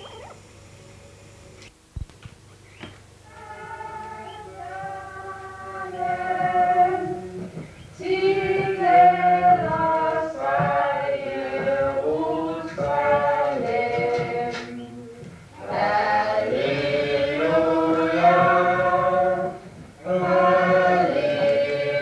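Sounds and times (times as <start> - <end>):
choir singing slow hymn: 3.2 - 22.0.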